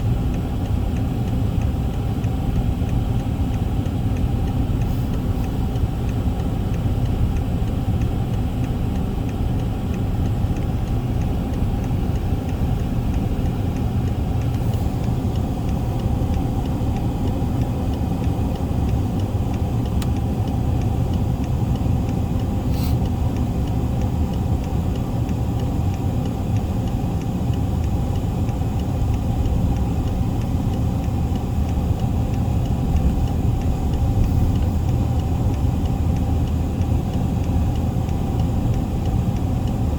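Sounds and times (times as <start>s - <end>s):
low mechanical rumble: 0.0s - 39.9s
faint tick: 0.3s - 20.2s, 20.8s - 39.8s.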